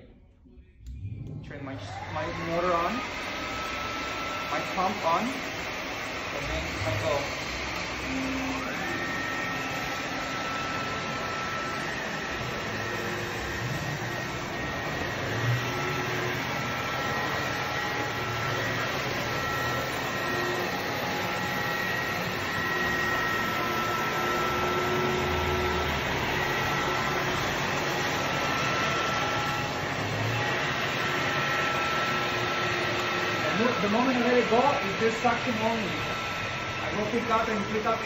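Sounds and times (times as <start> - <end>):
floor scrubber whirring: 0.8 - 38.0.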